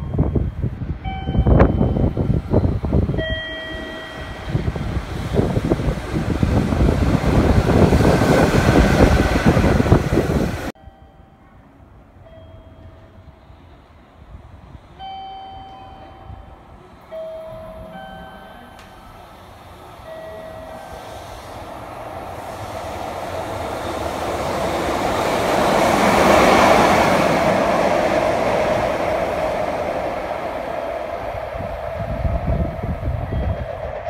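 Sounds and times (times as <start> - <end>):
locomotive rumble and wheel noise: 0.0 - 10.8, 12.8 - 34.0.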